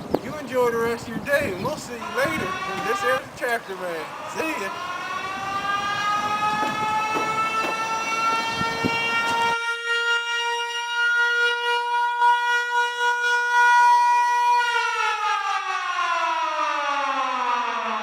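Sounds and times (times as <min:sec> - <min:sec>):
siren-like whistle: 0:01.8 - 0:18.0.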